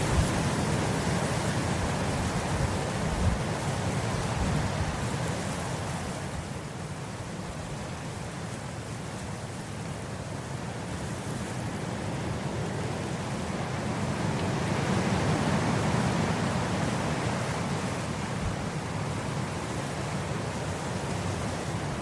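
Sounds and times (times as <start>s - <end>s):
wind blowing across grass: 0.0s - 22.0s.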